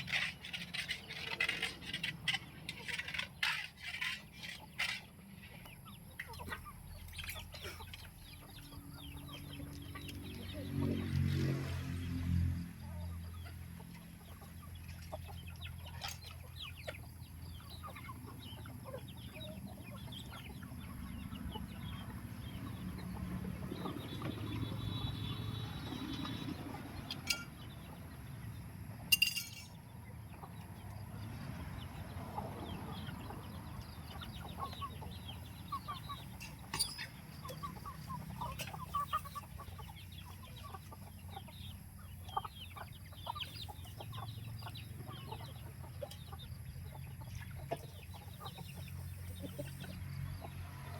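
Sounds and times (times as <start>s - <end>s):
chickens clucking: 0.0s - 11.8s, 12.6s - 50.9s.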